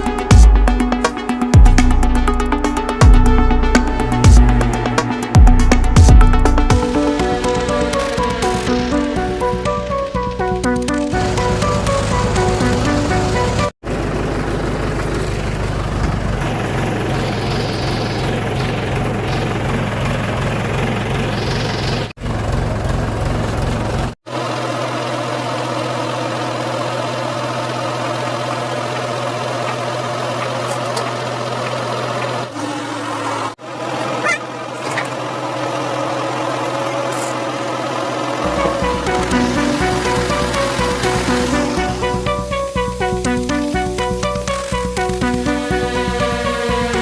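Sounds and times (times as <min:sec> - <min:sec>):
vehicle engines running: 0:00.0 - 0:47.0.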